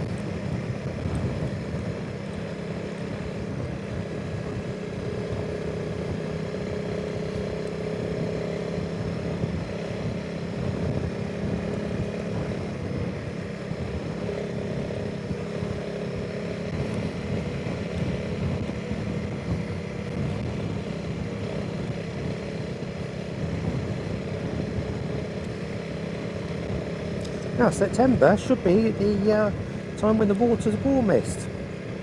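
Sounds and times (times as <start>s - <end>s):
wind buffeting microphone: 0.0s - 2.4s, 8.1s - 32.0s
motorcycle engine running: 0.0s - 32.0s.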